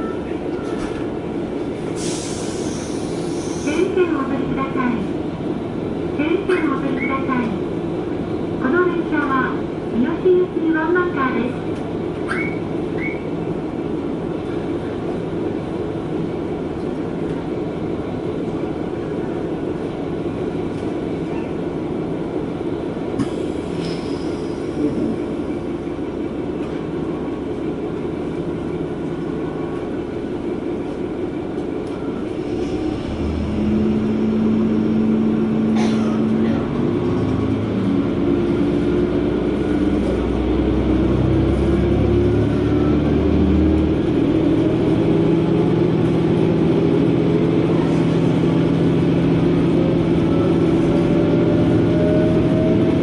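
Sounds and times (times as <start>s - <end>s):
railcar engine and wheels rumbling: 0.0s - 53.0s.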